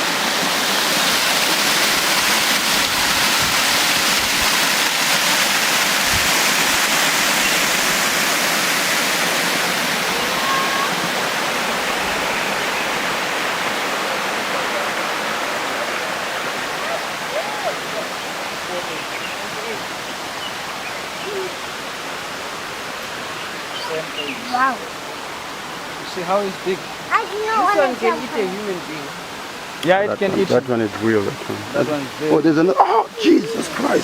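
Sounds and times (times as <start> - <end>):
falling water rushing: 0.0 - 34.0.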